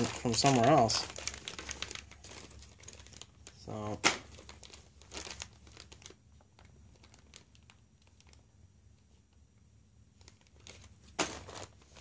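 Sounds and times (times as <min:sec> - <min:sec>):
plastic bag crinkling: 0:00.0 - 0:08.4, 0:10.2 - 0:12.0.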